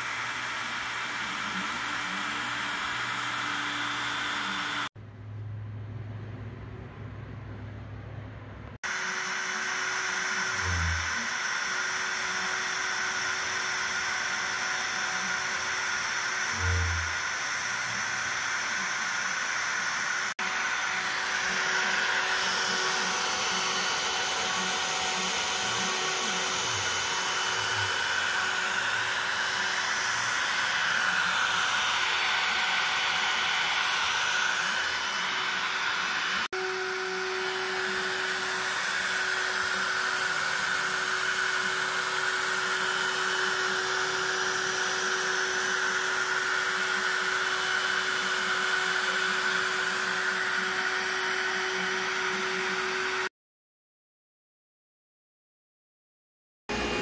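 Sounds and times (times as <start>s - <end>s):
router whining cutting wood: 0.0s - 5.0s, 8.8s - 53.3s, 56.7s - 57.0s.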